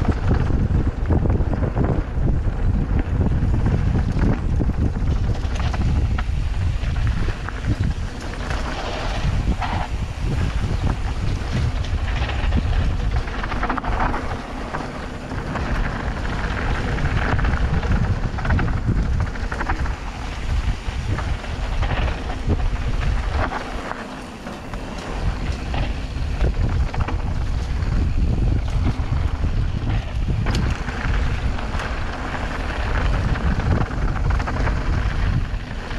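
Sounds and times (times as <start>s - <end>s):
mountain bike tyre noise: 0.0s - 35.9s
wind rumbling on microphone: 0.0s - 35.9s.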